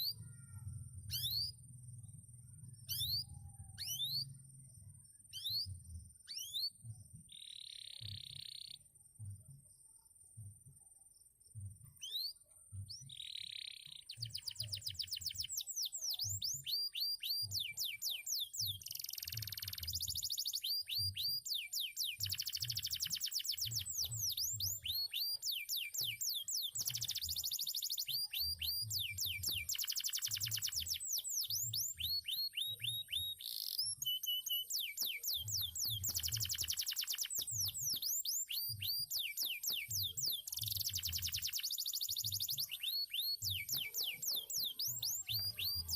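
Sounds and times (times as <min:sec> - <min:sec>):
canary singing trills: 0:00.0 - 0:04.5, 0:05.2 - 0:08.9, 0:11.8 - 0:45.9.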